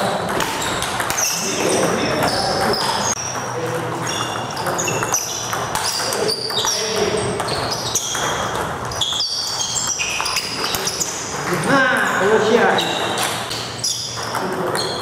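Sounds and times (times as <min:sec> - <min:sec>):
table tennis balls clicking: 0:00.0 - 0:15.0.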